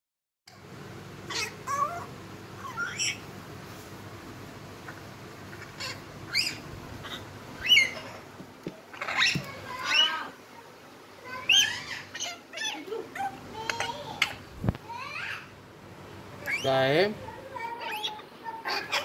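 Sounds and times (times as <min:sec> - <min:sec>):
parrot chirping and whining calls: 0:00.5 - 0:03.4, 0:04.7 - 0:10.5, 0:11.2 - 0:15.6, 0:16.3 - 0:19.0.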